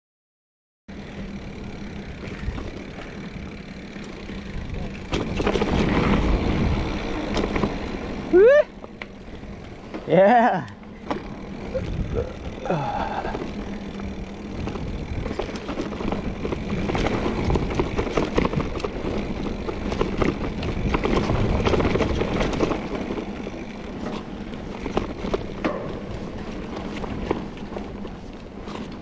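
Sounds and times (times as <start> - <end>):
bike tyres crunching over dirt: 0.9 - 29.0.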